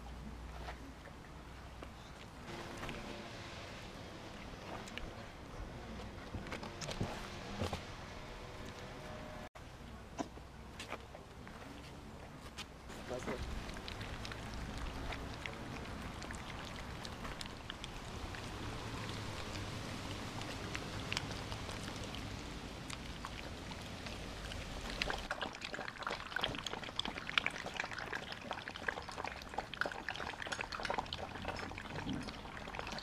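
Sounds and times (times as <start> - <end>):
puppies lapping and chewing food: 0.2 - 7.8, 12.9 - 33.0.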